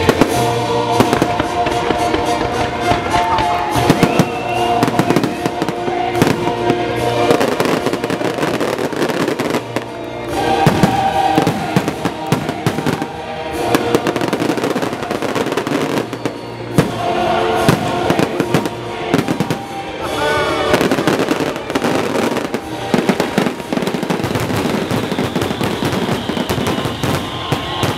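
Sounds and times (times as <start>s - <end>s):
fireworks banging and crackling: 0.0s - 27.9s
music playing: 0.0s - 27.9s.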